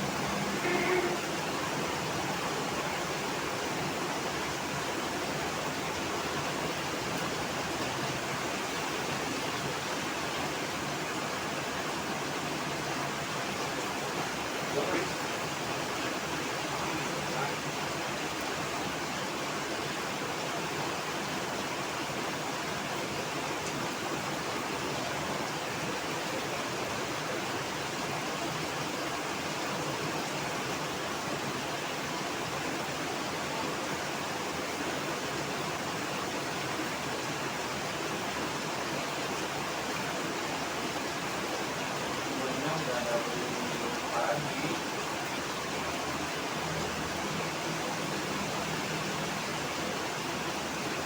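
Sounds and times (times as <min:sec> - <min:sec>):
heavy rain hiss: 0:00.0 - 0:51.0.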